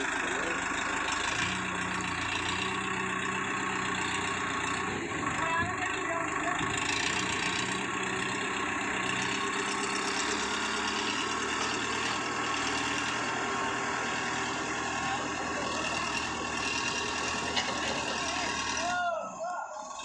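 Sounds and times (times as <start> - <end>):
loader pushing snow and ice: 0.0 - 20.0
tractor diesel engine running: 0.0 - 20.0.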